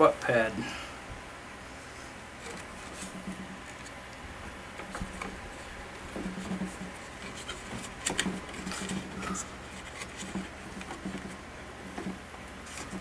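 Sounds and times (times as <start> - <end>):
rubbing and light tapping: 2.4 - 13.0.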